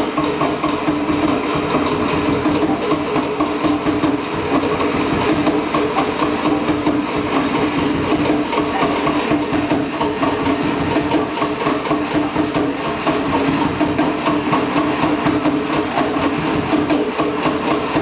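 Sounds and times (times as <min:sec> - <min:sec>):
fast drumming: 0:00.0 - 0:18.0.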